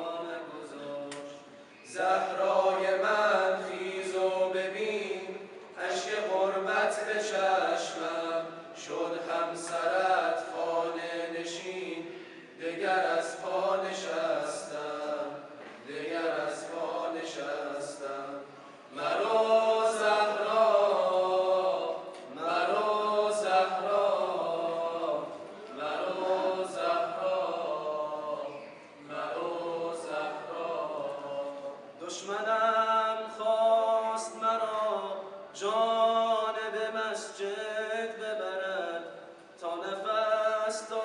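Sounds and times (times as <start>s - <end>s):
men chanting a cappella: 0.0s - 41.0s.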